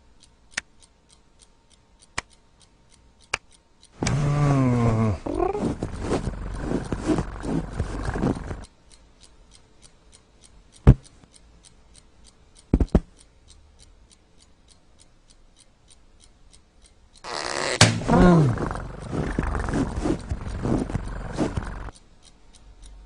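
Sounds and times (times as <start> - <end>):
faint even ticking: 0.0 - 23.0.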